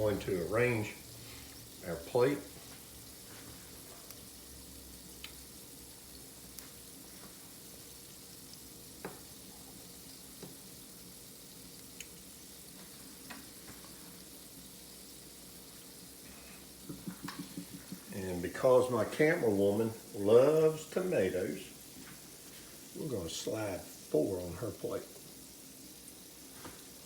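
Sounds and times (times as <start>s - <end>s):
hot pan sizzling: 0.0s - 27.0s.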